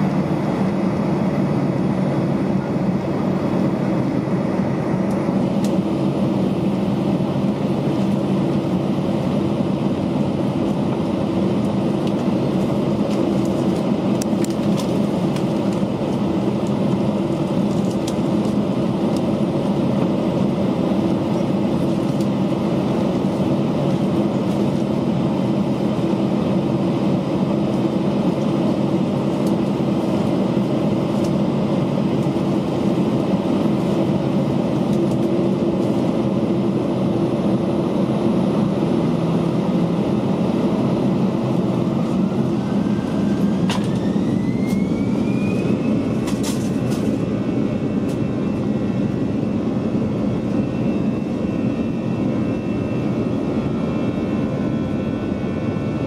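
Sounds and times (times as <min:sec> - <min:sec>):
aircraft cabin drone: 0:00.0 - 0:56.0
jet engines spooling up: 0:00.0 - 0:56.0.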